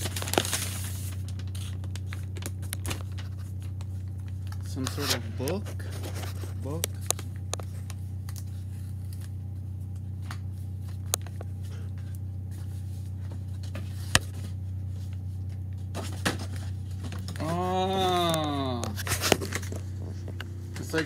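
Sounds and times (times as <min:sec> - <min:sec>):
cardboard pages handled: 0:00.0 - 0:21.0
steady low hum: 0:00.0 - 0:21.0.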